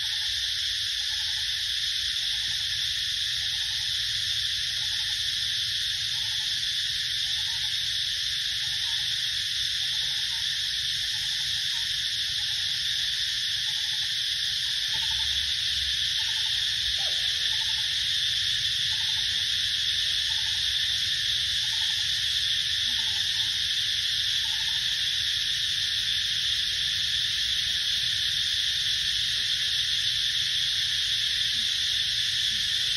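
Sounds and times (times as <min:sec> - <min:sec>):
high-pitched insect chorus: 0:00.0 - 0:32.9.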